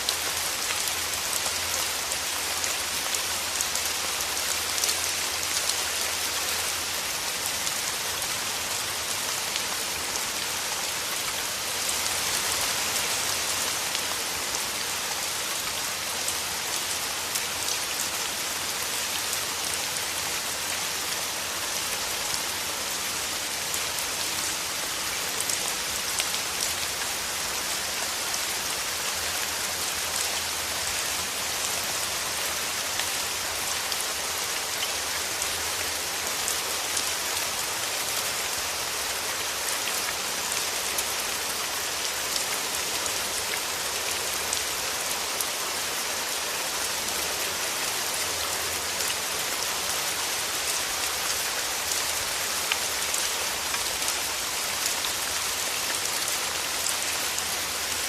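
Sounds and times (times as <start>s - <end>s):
rain hissing through forest trees: 0.0s - 58.0s
raindrops pattering on leaves: 0.0s - 58.0s.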